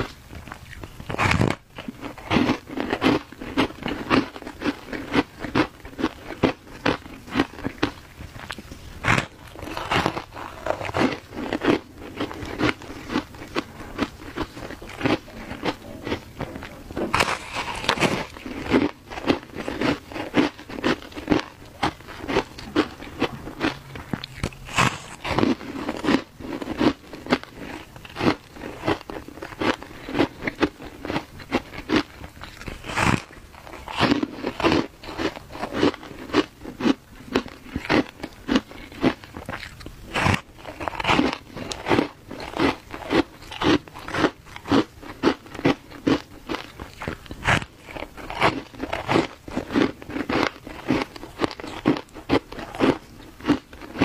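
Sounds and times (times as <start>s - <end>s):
crunching shaved ice: 0.0s - 54.0s.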